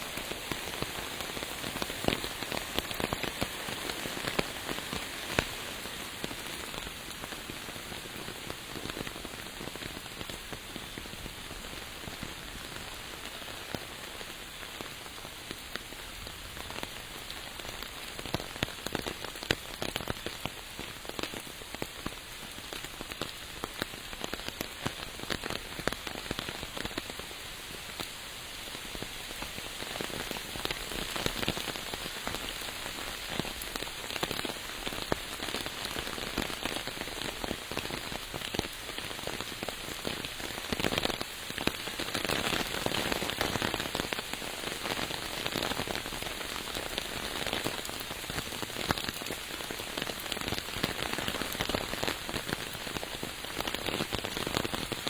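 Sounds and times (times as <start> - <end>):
raindrops ticking close by: 0.0 - 55.0
steady rain falling: 0.0 - 55.0.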